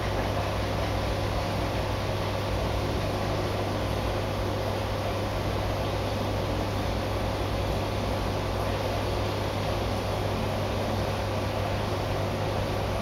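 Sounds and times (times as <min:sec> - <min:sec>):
aquarium pumps humming: 0:00.0 - 0:13.0
faint steady whine: 0:00.0 - 0:13.0
low mains hum: 0:00.0 - 0:13.0.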